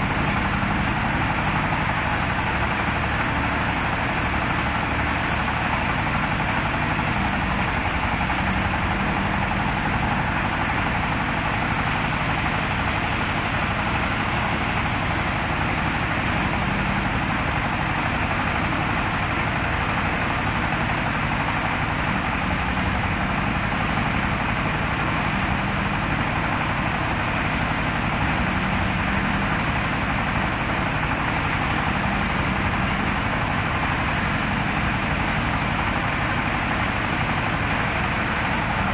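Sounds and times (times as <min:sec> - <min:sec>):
thresher engine drone: 0:00.0 - 0:38.9.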